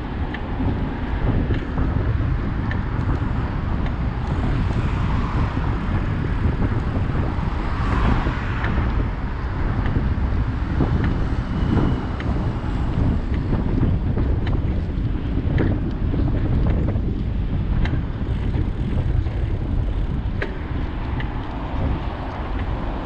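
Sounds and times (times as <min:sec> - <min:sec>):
traffic noise: 0:00.0 - 0:23.0
wind rumbling on microphone: 0:00.0 - 0:23.0.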